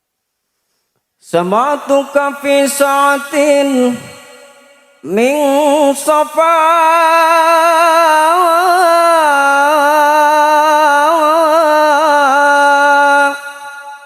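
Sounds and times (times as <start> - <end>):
man singing melismatic note: 1.2 - 14.0.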